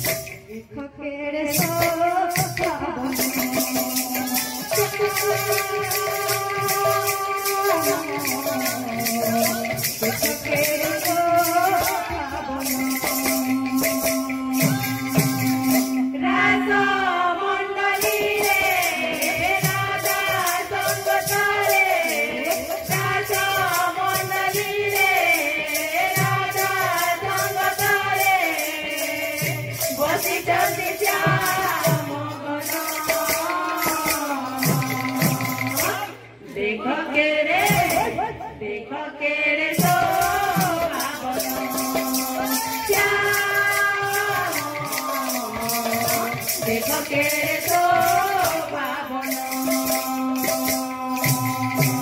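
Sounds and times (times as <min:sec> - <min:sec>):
hand cymbals beating: 0:00.0 - 0:00.6, 0:01.6 - 0:36.6, 0:39.7 - 0:52.0
woman singing: 0:00.0 - 0:52.0.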